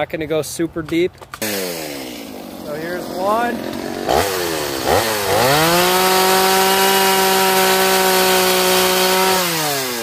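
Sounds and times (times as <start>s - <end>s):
chainsaw cutting wood: 1.2s - 10.0s.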